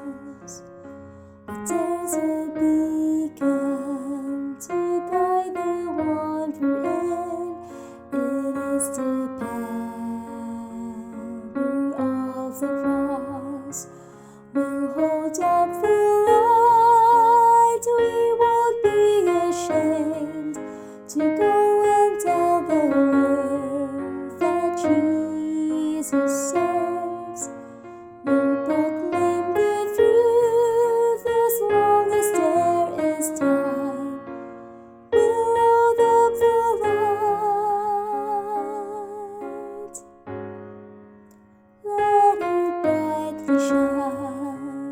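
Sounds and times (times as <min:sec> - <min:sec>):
woman singing a hymn: 0:00.0 - 0:00.7, 0:01.5 - 0:27.6, 0:28.2 - 0:34.3, 0:35.1 - 0:40.0, 0:41.9 - 0:44.9
piano accompaniment: 0:00.0 - 0:44.9.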